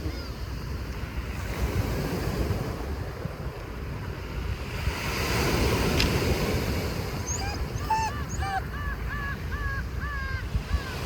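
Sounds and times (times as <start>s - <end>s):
sea waves washing ashore: 0.0s - 11.0s
wind buffeting microphone: 0.0s - 11.0s.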